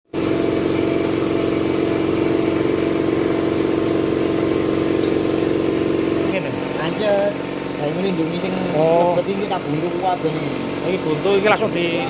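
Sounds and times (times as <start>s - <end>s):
vapor blasting machine humming: 0.1s - 12.0s.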